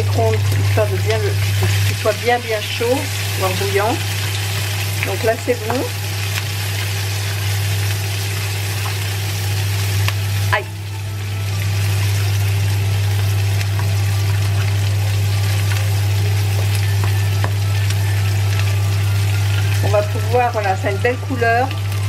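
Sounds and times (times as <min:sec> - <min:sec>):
sausage sizzling in oil: 0:00.0 - 0:22.0.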